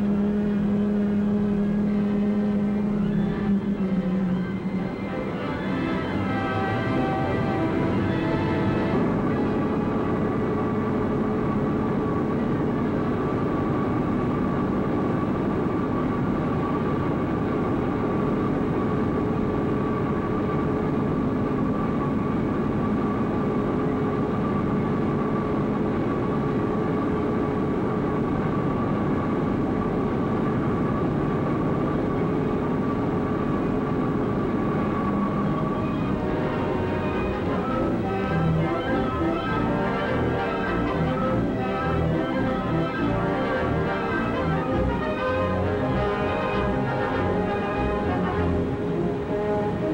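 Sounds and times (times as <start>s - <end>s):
held hum tones: 0.0s - 49.9s
mechanical rumble: 0.0s - 49.9s.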